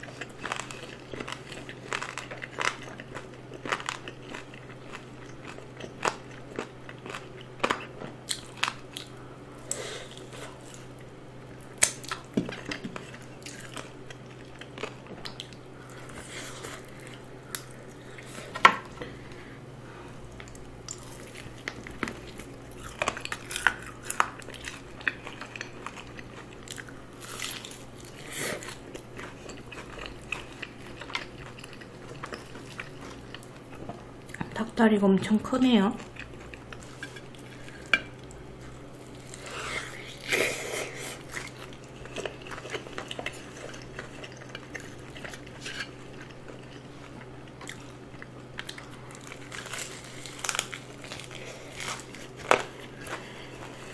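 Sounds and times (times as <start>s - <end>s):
crunching and chewing fried chicken: 0.0s - 34.8s, 35.6s - 53.9s
steady low hum: 0.0s - 53.9s.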